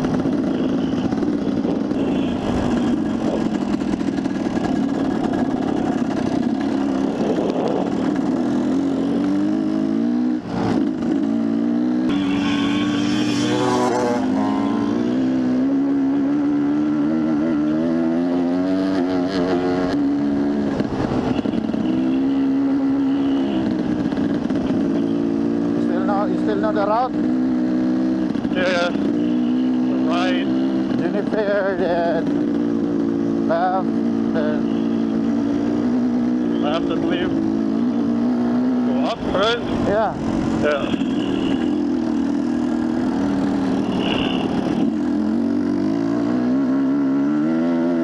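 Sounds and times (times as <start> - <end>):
dirt bike engine running: 0.0 - 18.9, 20.0 - 47.6.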